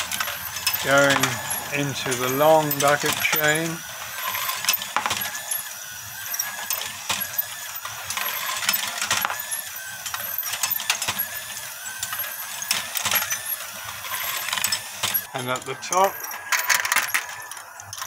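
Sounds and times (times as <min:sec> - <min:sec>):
metal chain lift clinking: 0:00.0 - 0:18.0
steel balls clicking and rattling: 0:00.0 - 0:18.0.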